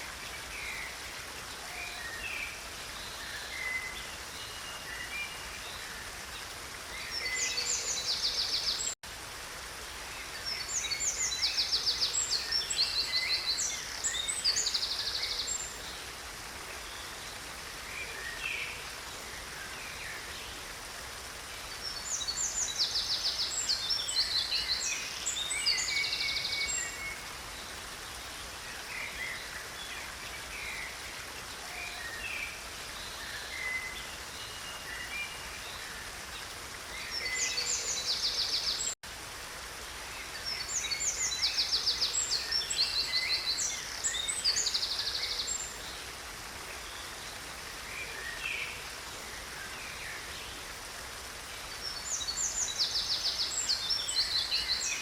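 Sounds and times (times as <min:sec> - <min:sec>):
small stream rushing: 0:00.0 - 0:55.0.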